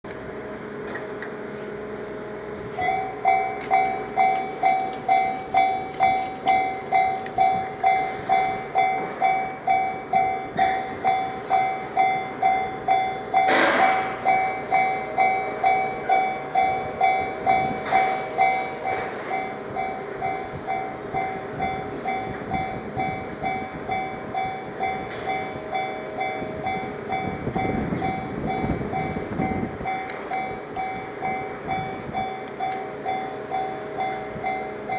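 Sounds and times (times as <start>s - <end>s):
level-crossing warning bell: 0.1s - 34.9s
train rumbling past: 0.1s - 34.9s.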